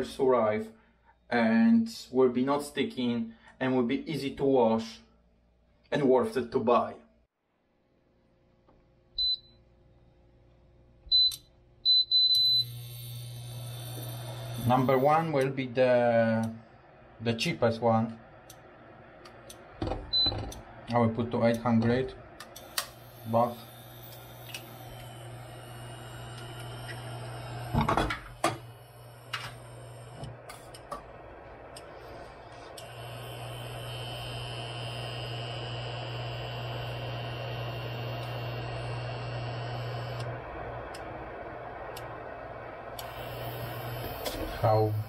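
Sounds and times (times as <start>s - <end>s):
cooktop hum with high whine: 7.5s - 45.0s.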